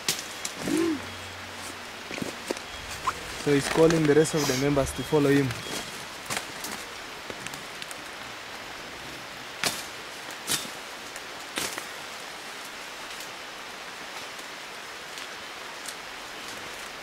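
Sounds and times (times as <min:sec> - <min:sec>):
rain on foliage hiss: 0:00.0 - 0:17.0.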